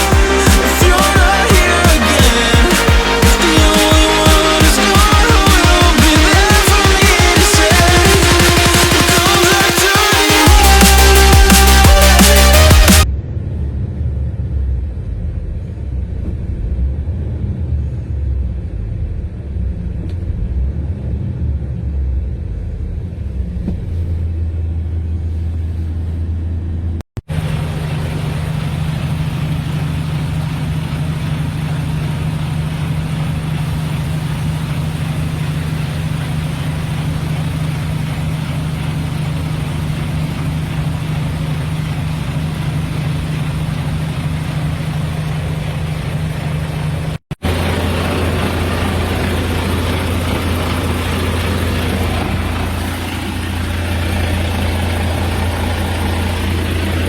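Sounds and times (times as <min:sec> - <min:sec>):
diesel truck engine rumbling: 0:00.0 - 0:57.0.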